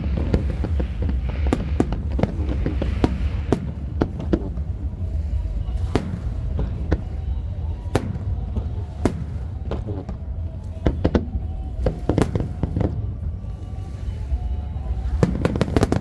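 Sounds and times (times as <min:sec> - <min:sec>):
fireworks bangs: 0:00.0 - 0:16.0
steady low rumble: 0:00.0 - 0:16.0.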